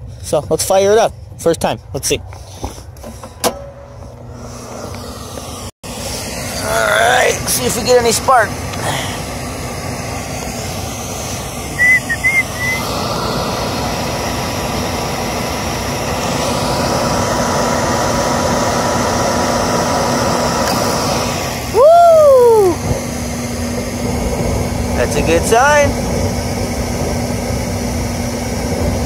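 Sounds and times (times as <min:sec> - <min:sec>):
gas heater burner rushing: 0:00.0 - 0:29.0.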